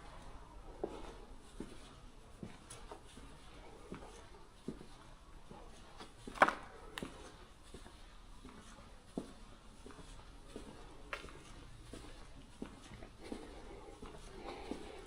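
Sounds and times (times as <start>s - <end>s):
footsteps walking: 0.0s - 15.0s.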